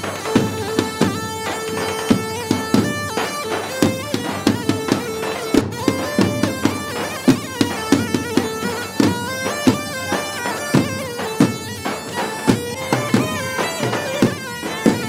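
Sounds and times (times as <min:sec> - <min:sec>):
drums beaten in fast rhythm: 0:00.0 - 0:15.0
keyboard melody of held notes: 0:00.0 - 0:15.0.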